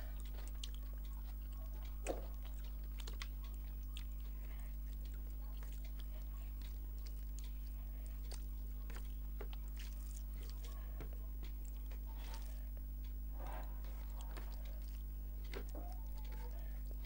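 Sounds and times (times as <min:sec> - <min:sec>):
fingers squishing rice: 0:00.0 - 0:17.0
steady low hum: 0:00.0 - 0:17.0
wet chewing: 0:00.0 - 0:17.0.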